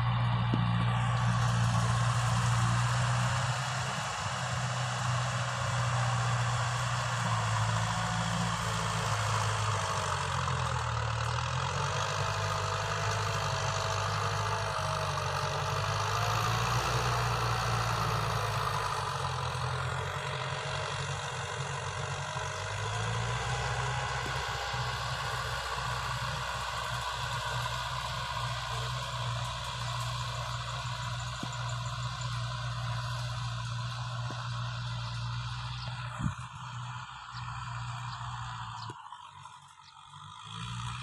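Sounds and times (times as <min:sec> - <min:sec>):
rotary tiller in dry soil: 0:00.0 - 0:41.0
tractor diesel engine running: 0:00.0 - 0:41.0.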